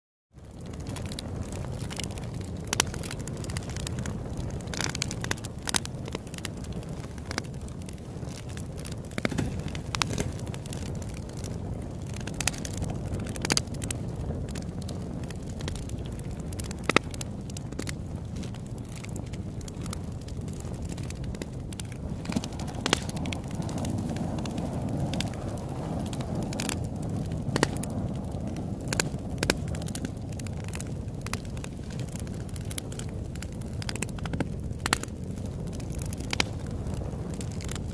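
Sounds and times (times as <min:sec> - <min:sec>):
low fire rumble: 0:00.3 - 0:37.9
sharp pops from burning logs: 0:00.4 - 0:37.9
wood fire crackling: 0:00.4 - 0:37.9.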